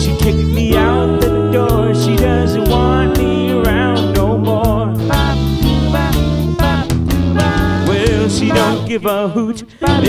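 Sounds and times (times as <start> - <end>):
blues song: 0.0 - 10.0.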